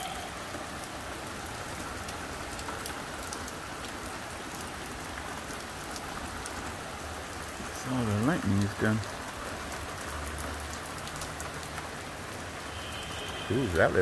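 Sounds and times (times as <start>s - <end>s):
rain falling on pavement: 0.0s - 14.0s.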